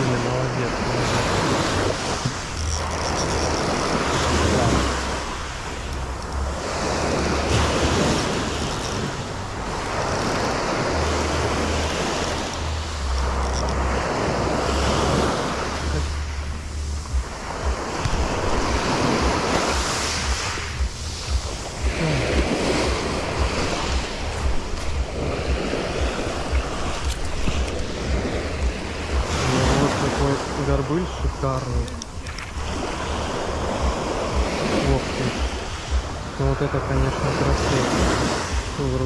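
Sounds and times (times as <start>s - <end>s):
sea waves washing in: 0.0s - 39.0s
wind rumbling on microphone: 0.0s - 39.0s.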